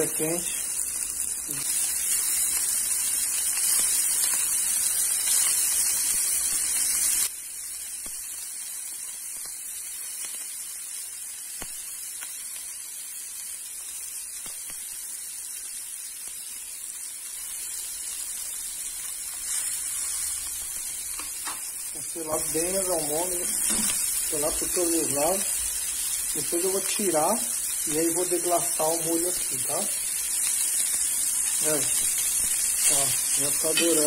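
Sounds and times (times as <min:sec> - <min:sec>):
meatballs sizzling in a frying pan: 0:00.0 - 0:34.0.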